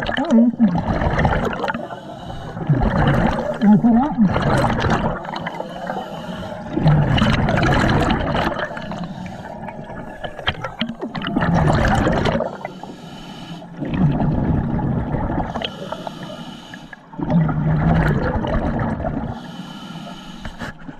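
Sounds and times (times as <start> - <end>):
exhaled bubbles underwater: 0.0 - 13.0, 13.7 - 19.5.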